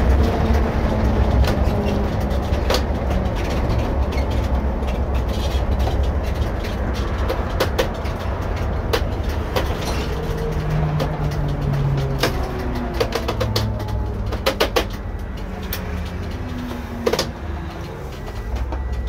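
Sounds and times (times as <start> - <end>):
body rattles and knocks: 0.0 - 19.0
bus engine drone: 0.0 - 19.0.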